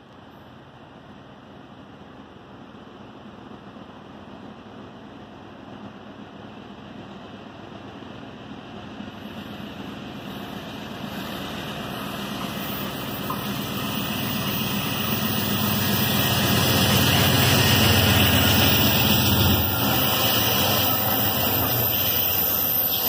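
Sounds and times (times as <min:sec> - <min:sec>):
train wheels on rails: 0:00.1 - 0:23.0
diesel locomotives rumbling past: 0:00.5 - 0:23.0.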